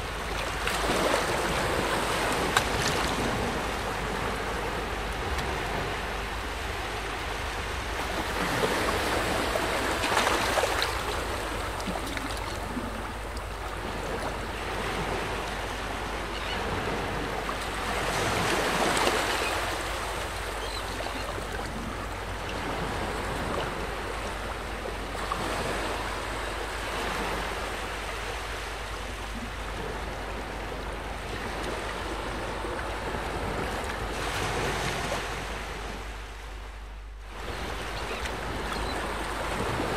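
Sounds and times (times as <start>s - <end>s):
small waves: 0.0s - 39.9s
wind: 0.0s - 39.9s.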